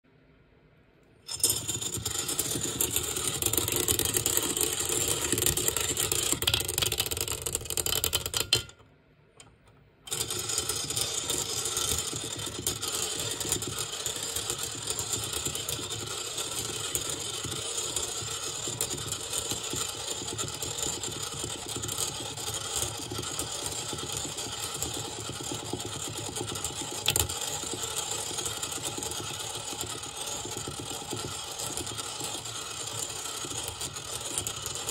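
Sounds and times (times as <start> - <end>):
stirrer motor running: 1.3 - 8.7, 10.1 - 34.9
steel balls rattling on glass: 1.3 - 8.8, 10.1 - 34.9.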